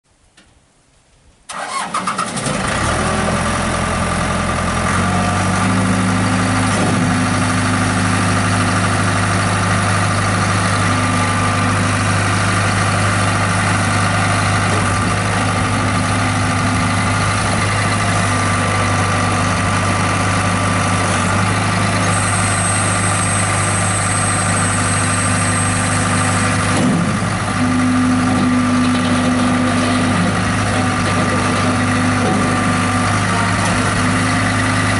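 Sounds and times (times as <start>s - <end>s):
loader engine running: 1.5s - 34.9s
loader engine starting: 1.5s - 34.9s.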